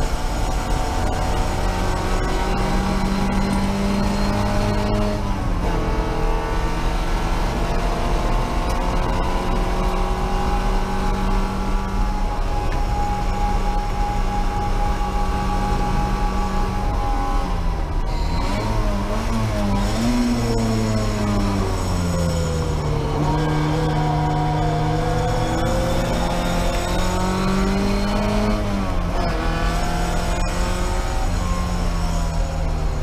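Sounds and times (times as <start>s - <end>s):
race car engine at high revs: 0.0s - 33.0s.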